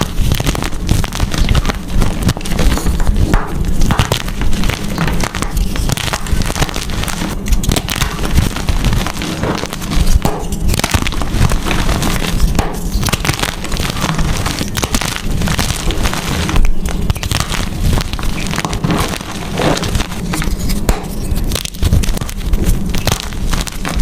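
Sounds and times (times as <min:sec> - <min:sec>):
chalk being crushed: 0:00.0 - 0:24.0.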